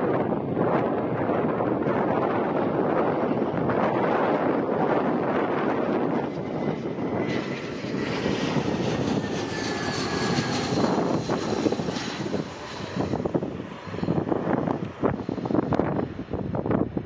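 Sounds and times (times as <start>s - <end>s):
jet aircraft passing overhead: 0.0s - 17.0s.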